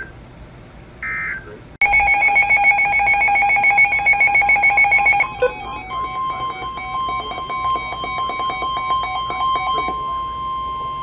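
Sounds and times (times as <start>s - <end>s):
data tones burst: 1.0s - 11.0s
high warning alarm tone: 1.0s - 11.0s
pulsing electronic alert beep: 1.1s - 11.0s.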